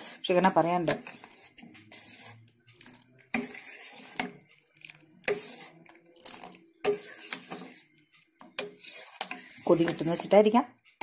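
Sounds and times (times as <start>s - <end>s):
metal spoon scraping saucepan: 0.0s - 10.6s.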